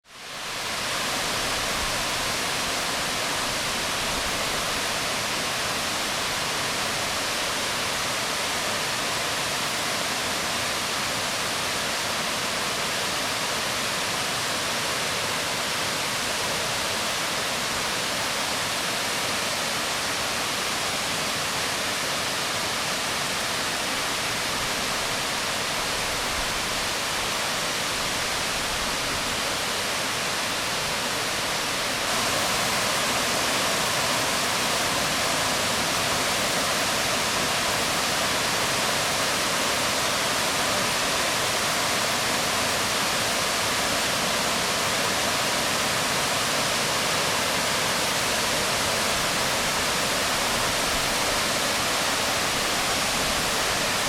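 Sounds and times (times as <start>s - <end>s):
waterfall rushing onto rocks: 0.0s - 54.0s.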